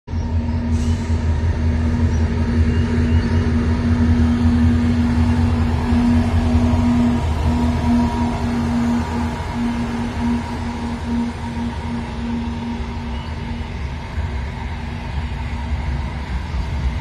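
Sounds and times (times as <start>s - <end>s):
locomotive droning hum: 0.0s - 17.0s
locomotive low rumble: 0.1s - 17.0s.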